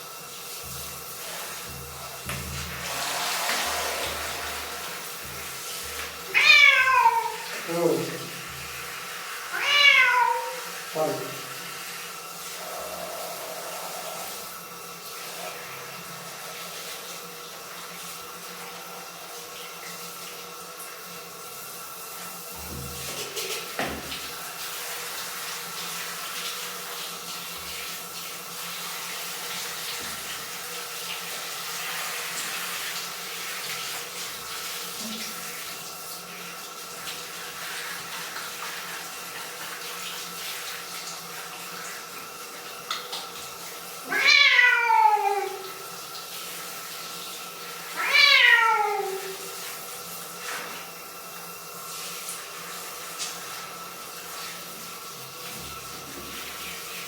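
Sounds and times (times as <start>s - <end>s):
tap water running into sink: 0.0s - 57.0s.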